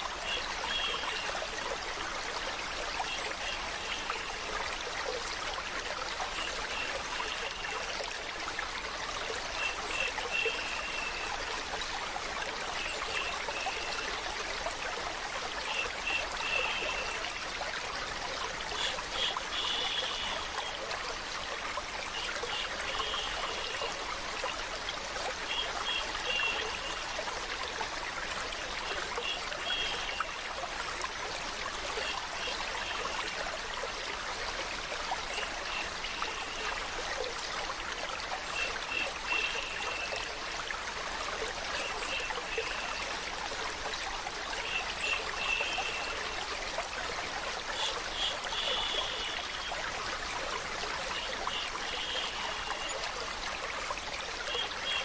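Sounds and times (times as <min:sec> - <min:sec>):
bright water trickling: 0:00.0 - 0:55.0
stream water running: 0:00.0 - 0:55.0.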